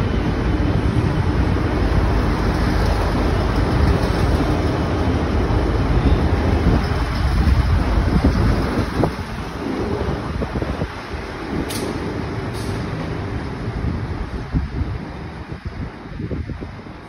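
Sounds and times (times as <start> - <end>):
diesel train rumbling past: 0.0 - 17.0.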